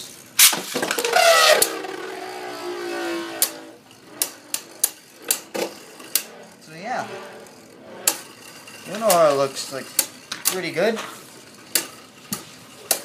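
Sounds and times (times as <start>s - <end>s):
spinning top whirring: 0.0s - 13.0s.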